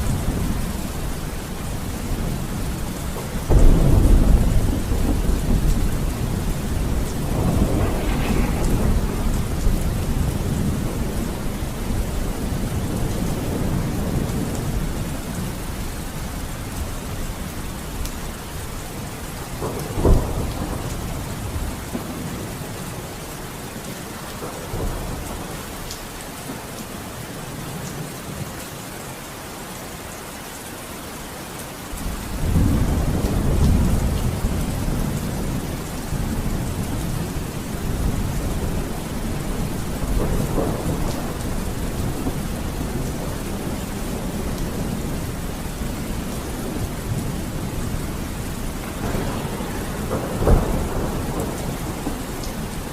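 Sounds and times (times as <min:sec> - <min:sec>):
thunder crack and rumble: 0:00.0 - 0:23.4, 0:24.2 - 0:26.6, 0:32.0 - 0:52.9
steady rain: 0:00.0 - 0:52.9.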